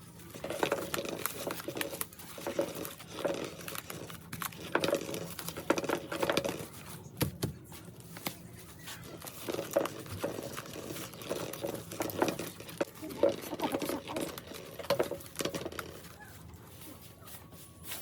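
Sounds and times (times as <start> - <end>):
dry straw and twigs rustling: 0.0 - 7.1, 7.8 - 18.0.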